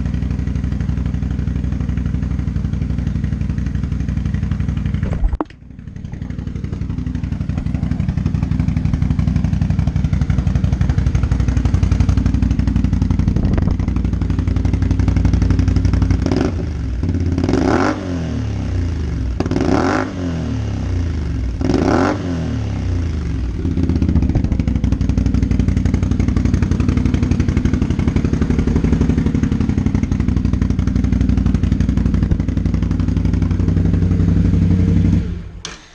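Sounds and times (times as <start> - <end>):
atv engine idling and revving: 0.0 - 35.9.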